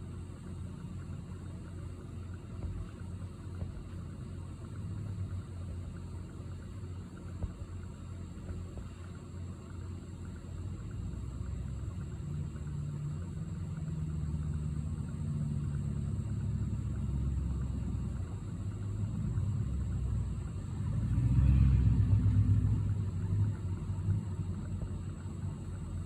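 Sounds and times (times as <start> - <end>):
motor vehicle engine rumble: 2.2 - 26.0.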